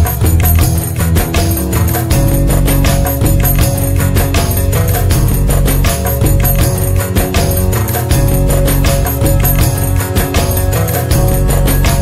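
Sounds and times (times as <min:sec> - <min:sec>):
music with percussive beat and bass: 0:00.0 - 0:12.0.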